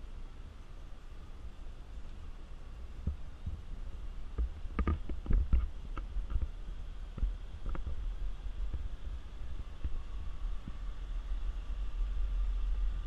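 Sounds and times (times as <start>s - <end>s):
vehicle rumbling off-road: 0.0s - 13.0s.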